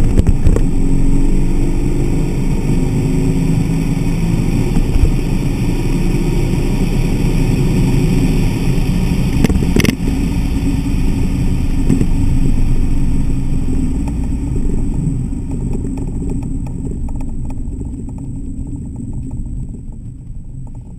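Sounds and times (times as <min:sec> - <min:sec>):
car engine at high speed: 0:00.0 - 0:20.9
wind and road noise: 0:00.0 - 0:20.9.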